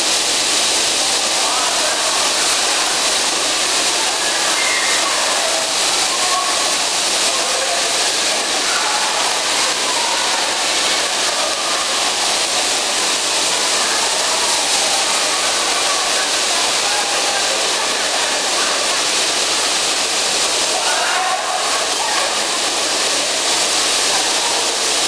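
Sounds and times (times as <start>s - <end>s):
faint voices: 0.0s - 25.0s.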